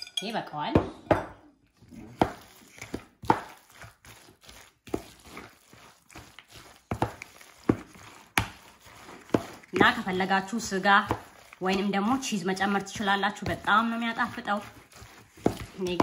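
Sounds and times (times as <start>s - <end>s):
hands squelching pasta in bowl: 1.6s - 16.0s.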